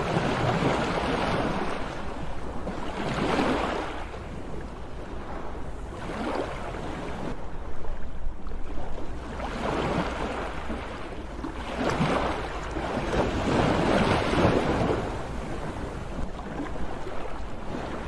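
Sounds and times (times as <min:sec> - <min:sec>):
sea waves washing ashore: 0:00.0 - 0:18.0.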